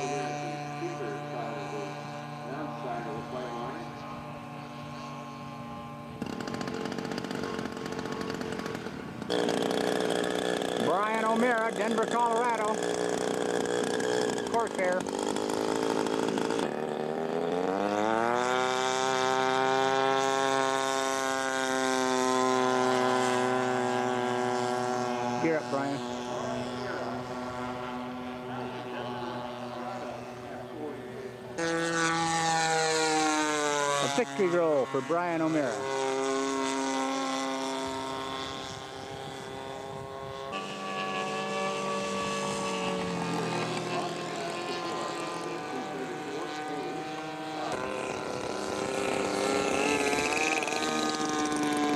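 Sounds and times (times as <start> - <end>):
model airplane engine revving: 0.0 - 51.9.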